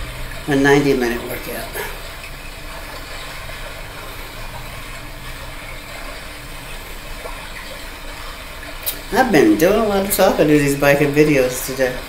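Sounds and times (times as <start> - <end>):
water rushing in a brook: 0.0 - 12.0.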